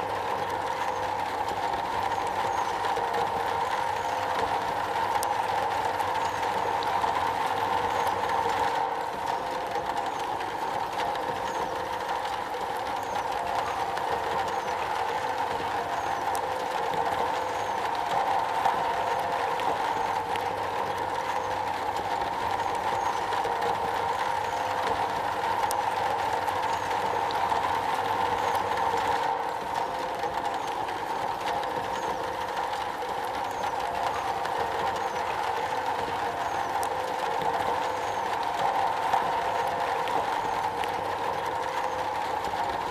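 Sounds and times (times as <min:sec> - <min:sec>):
rain on a metal roof: 0:00.0 - 0:42.9.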